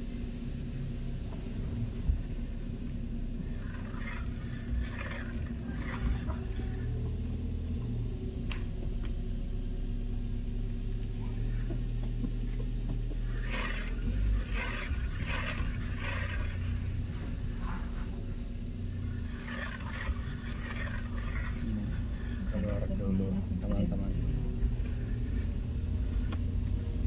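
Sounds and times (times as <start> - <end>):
road vehicle rumbling: 0.0 - 27.0.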